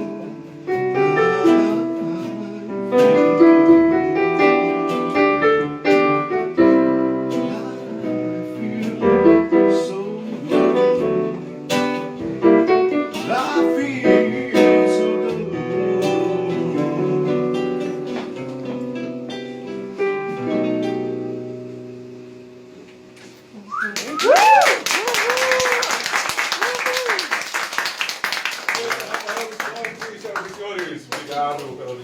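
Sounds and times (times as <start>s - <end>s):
piano and guitar playing: 0.0s - 32.0s.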